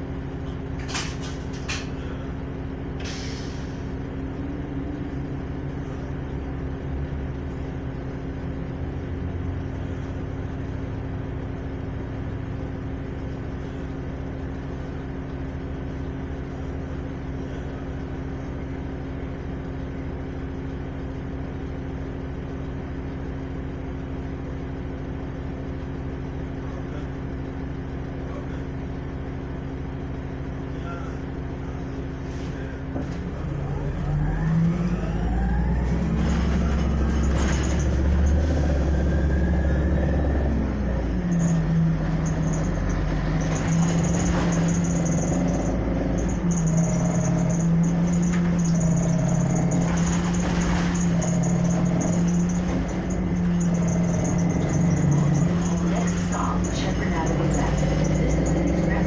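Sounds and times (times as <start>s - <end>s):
bus engine revving: 0.0s - 19.8s, 31.4s - 59.0s.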